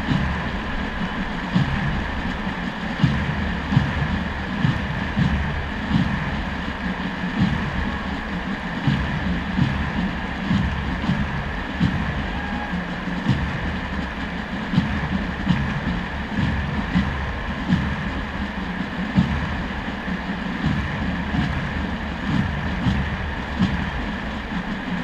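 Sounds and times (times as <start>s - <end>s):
stadium crowd roar: 0.0s - 25.0s.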